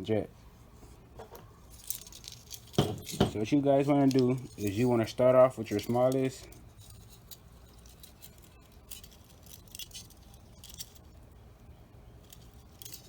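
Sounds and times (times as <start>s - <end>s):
light metallic clicks and scrapes: 1.2s - 11.2s, 12.2s - 13.0s.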